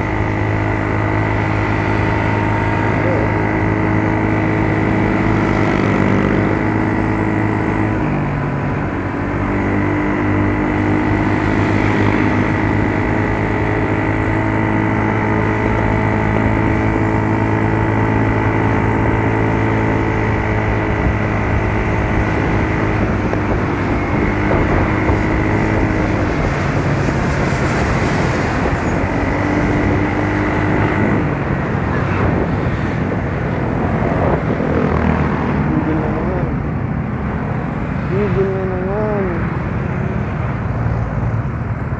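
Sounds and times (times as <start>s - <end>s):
scooter engine droning: 0.0s - 41.9s.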